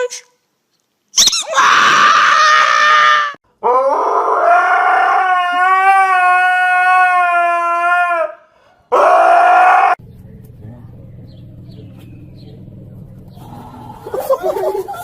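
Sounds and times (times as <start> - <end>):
dog howling: 1.6 - 15.0.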